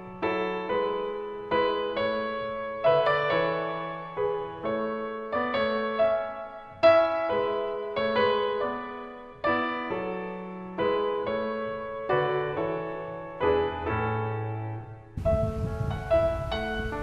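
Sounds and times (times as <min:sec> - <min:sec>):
slow gentle piano chords: 0:00.0 - 0:17.0.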